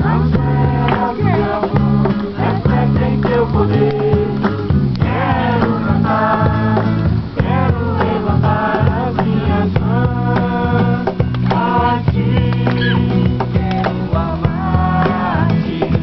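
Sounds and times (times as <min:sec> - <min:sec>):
group singing worship song: 0:00.0 - 0:16.0
guitar: 0:00.0 - 0:16.0.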